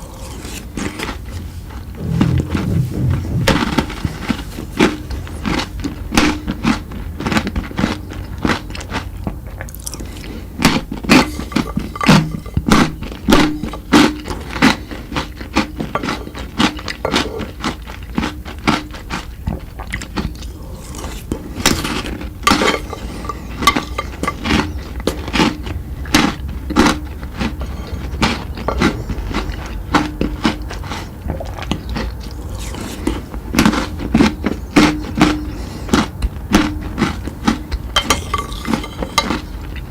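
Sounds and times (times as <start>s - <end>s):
crunching chocolate treats: 4.8s - 39.9s.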